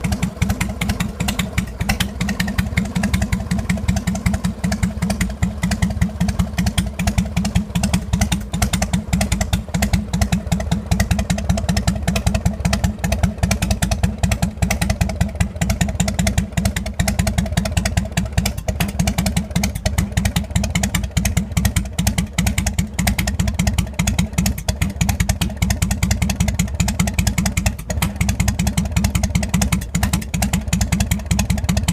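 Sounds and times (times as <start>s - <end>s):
motorcycle engine idling: 0.0s - 31.9s.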